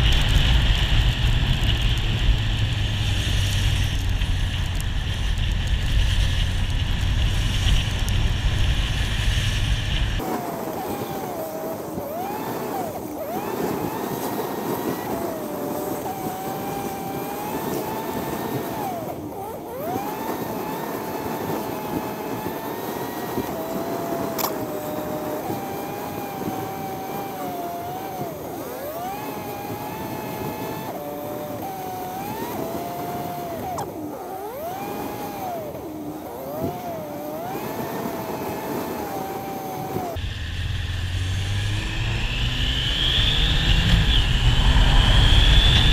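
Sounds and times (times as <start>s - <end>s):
motorcycle engine revving: 0.0s - 45.9s
wind and road noise: 0.0s - 45.9s.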